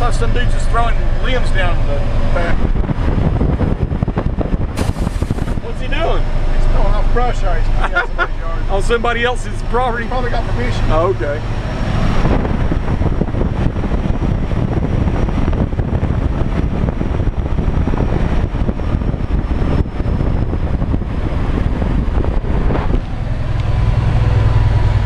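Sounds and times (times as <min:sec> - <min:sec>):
diesel engine drone: 0:00.0 - 0:25.0
road and wind noise: 0:00.0 - 0:25.0.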